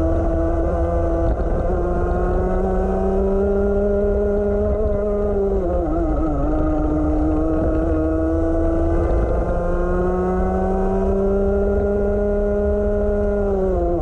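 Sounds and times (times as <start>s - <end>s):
kart engine at full throttle: 0.0s - 14.0s
wind rumble on microphone: 0.0s - 14.0s.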